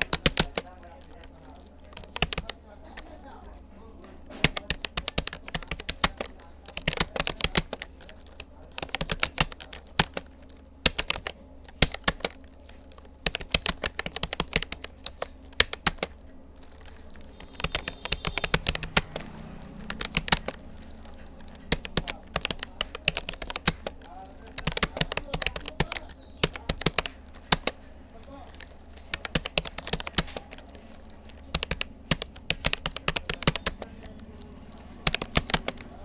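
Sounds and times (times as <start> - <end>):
keyboard keys clicking: 0.0 - 36.0.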